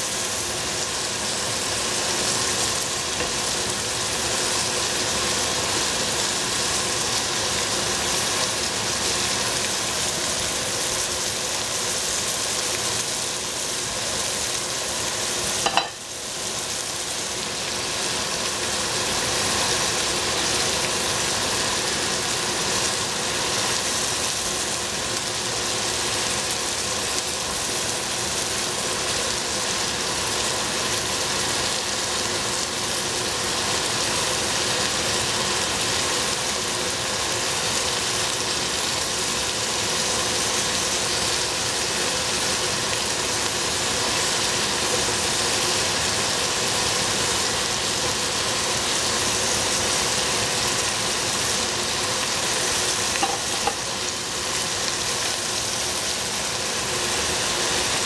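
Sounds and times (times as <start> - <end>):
vegetables sizzling in a pan: 0.0 - 58.0.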